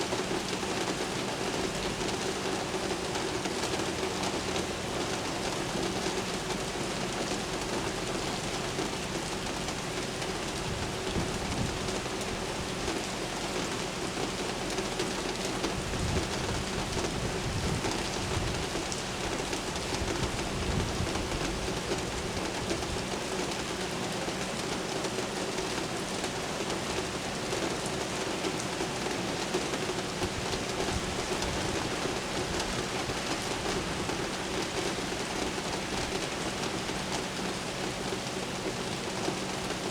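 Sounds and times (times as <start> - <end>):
rain splashing on surfaces: 0.0 - 39.9.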